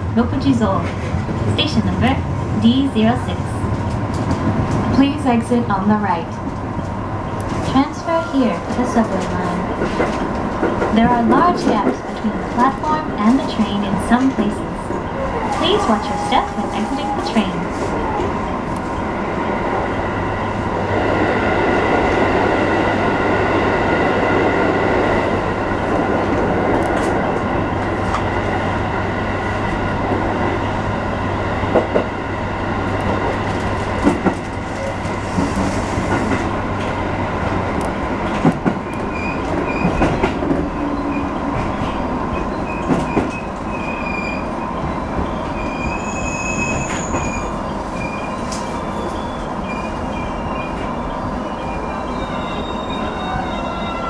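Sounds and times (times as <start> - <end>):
train motor and wheel noise: 0.0 - 54.0.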